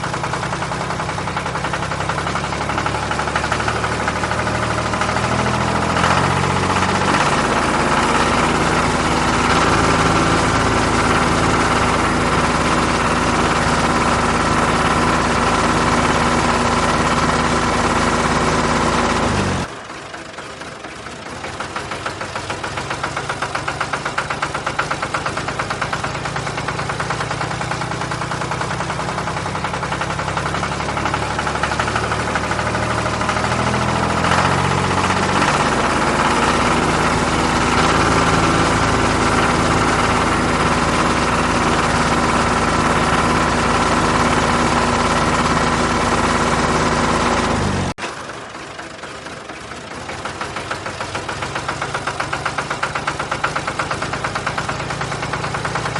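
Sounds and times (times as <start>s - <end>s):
rapidly pulsing engine: 0.0s - 55.9s
vehicle engine running: 0.0s - 55.9s.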